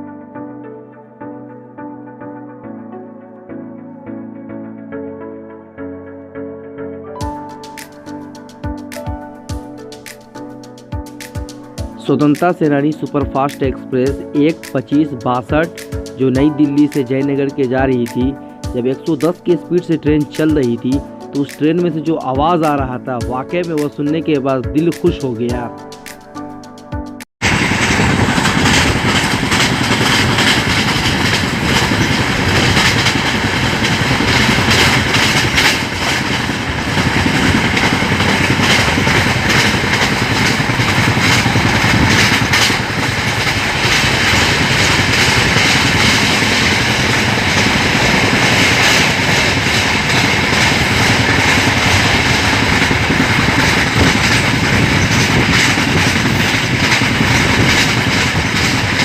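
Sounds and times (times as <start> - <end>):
train wheels rumbling on track: 7.2 - 22.9, 27.4 - 59.0.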